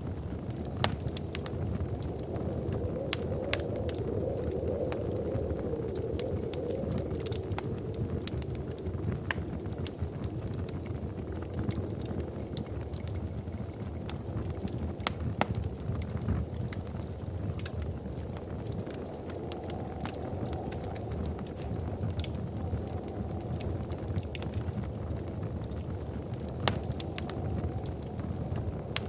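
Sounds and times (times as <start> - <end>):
fire low rumble: 0.0 - 29.0
wood fire popping and snapping: 0.0 - 29.0.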